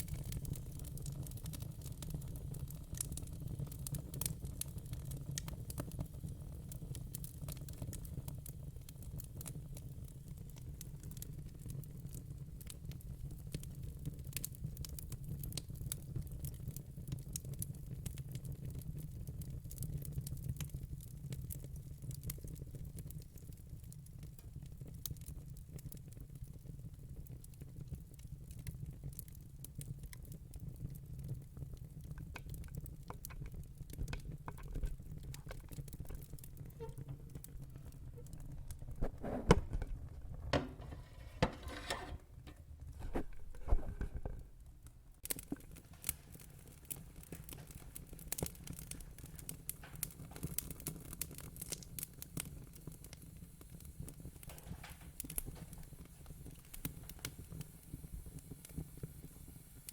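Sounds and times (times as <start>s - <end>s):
fire popping: 0.0s - 59.9s
wood fire crackling: 0.0s - 59.9s.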